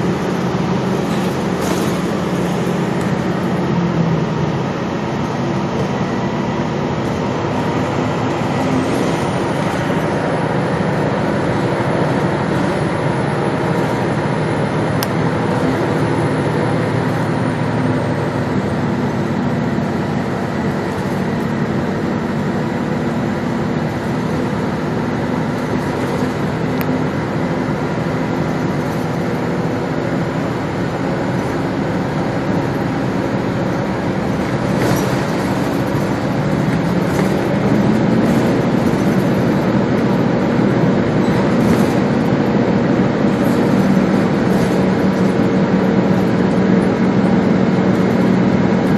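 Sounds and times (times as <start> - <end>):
bus engine drone: 0.0 - 48.9
road noise: 0.0 - 48.9.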